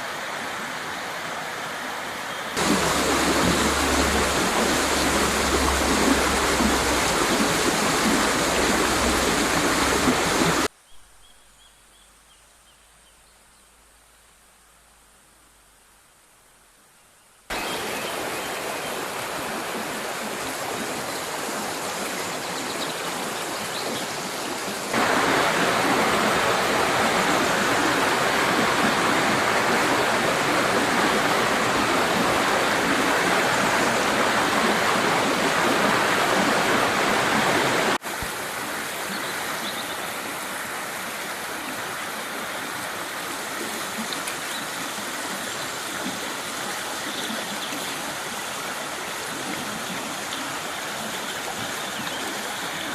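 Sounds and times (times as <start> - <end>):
river rushing over rocks: 0.0 - 10.7, 17.5 - 52.9.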